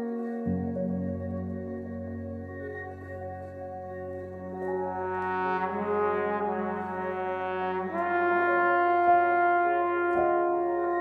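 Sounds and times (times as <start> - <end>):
slow sustained chords: 0.0 - 11.0.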